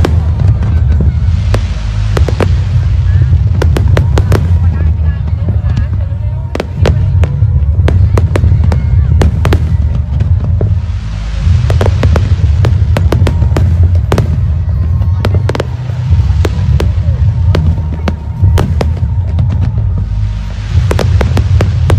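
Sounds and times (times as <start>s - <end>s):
deep rumble: 0.0s - 21.9s
firework bangs: 0.0s - 21.9s
hissing crackle: 0.0s - 21.9s.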